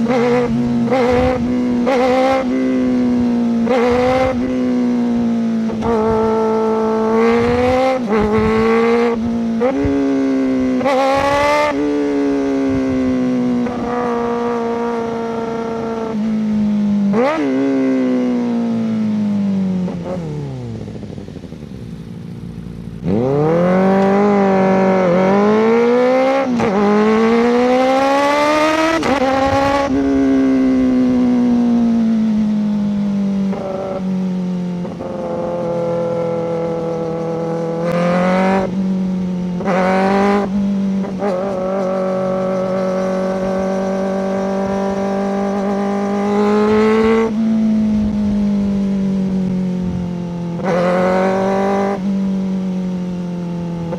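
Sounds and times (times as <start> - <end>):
sport motorcycle engine revving: 0.0 - 53.9.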